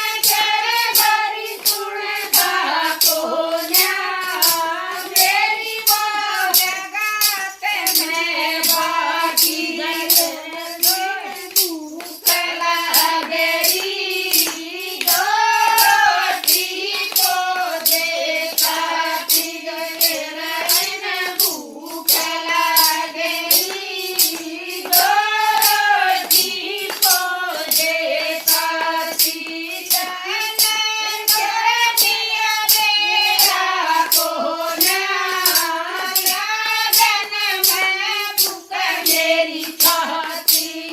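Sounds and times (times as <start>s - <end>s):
devotional singing: 0.0s - 40.9s
sharp percussion strikes: 0.0s - 40.9s.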